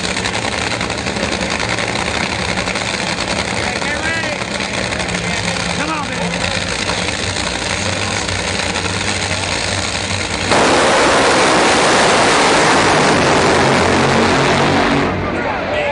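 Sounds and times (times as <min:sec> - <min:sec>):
drag racing engine roaring: 0:00.0 - 0:15.9.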